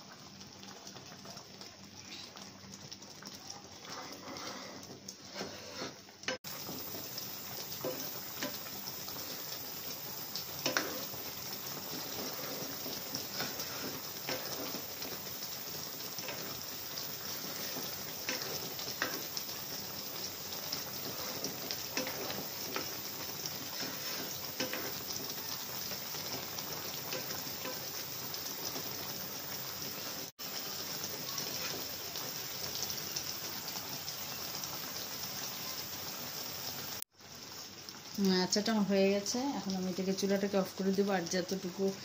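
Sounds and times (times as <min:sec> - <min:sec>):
syrup boiling in a pan: 0:00.0 - 0:42.0.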